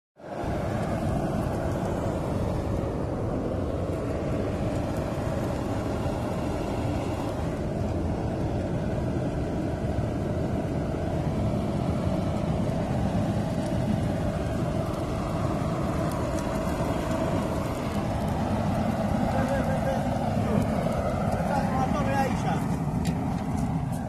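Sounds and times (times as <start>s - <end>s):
gas burner rushing: 0.2s - 24.0s.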